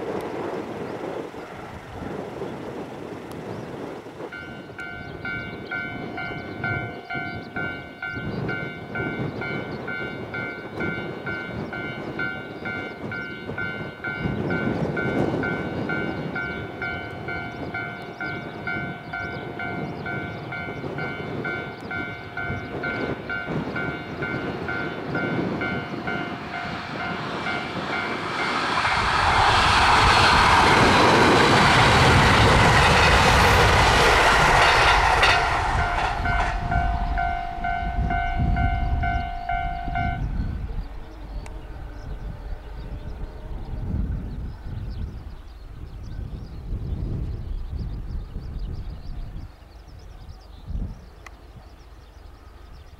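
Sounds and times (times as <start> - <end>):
electric train passing at speed: 0.0 - 52.9.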